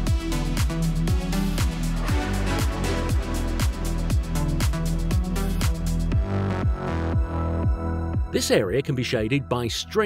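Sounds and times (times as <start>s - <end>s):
kick drum beat: 0.1s - 8.4s.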